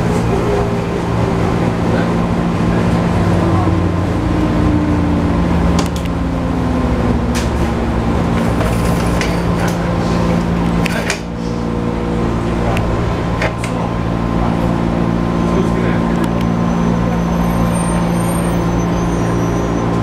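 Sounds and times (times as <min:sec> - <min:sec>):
train hum and rumble: 0:00.0 - 0:20.0.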